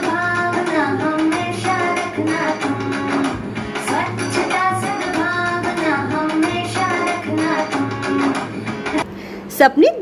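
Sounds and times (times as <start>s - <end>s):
song with singing voice: 0.0s - 9.0s.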